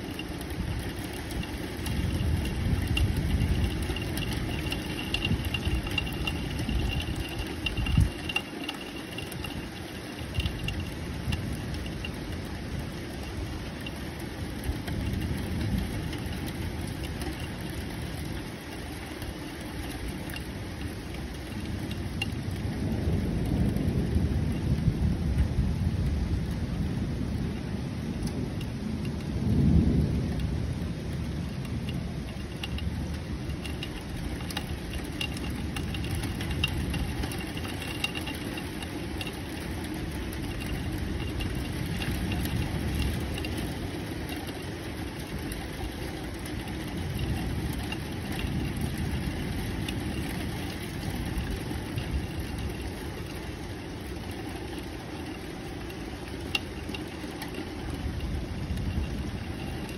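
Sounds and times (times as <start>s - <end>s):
low rolling thunder: 0.0s - 19.8s, 20.8s - 59.9s.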